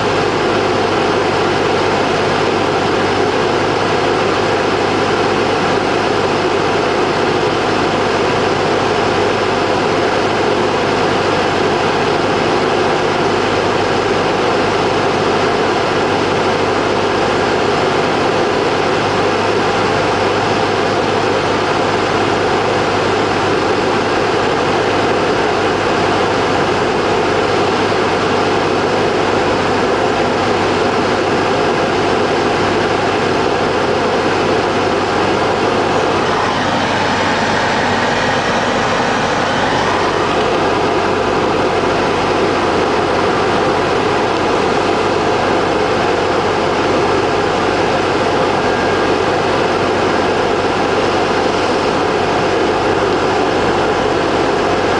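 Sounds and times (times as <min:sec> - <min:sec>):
airplane engine and propeller drone: 0:00.0 - 0:54.9.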